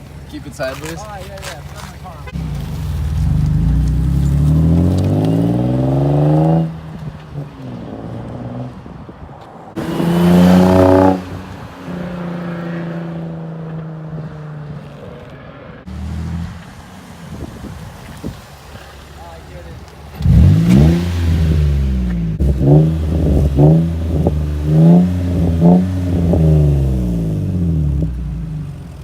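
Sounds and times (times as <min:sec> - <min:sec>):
car engine revving: 0:00.0 - 0:09.0, 0:09.7 - 0:29.0.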